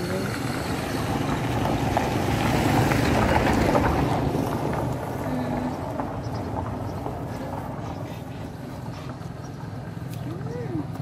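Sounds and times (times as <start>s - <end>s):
vehicle passing on road: 0.0s - 11.0s.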